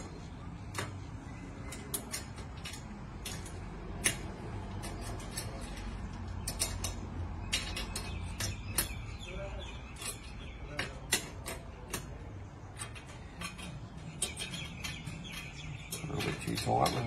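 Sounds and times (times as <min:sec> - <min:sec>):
spanner metallic clicks and taps: 0:00.0 - 0:09.3, 0:09.9 - 0:17.0.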